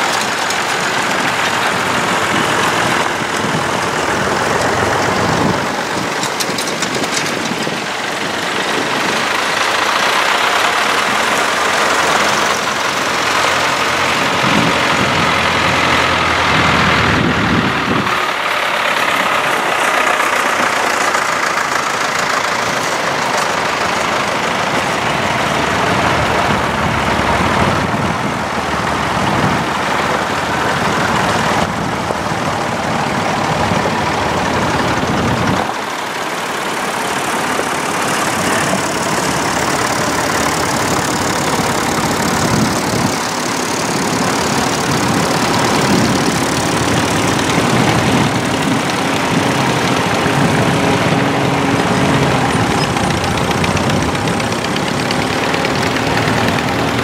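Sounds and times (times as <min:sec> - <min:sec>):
tractor engines driving past: 0:00.0 - 0:57.0.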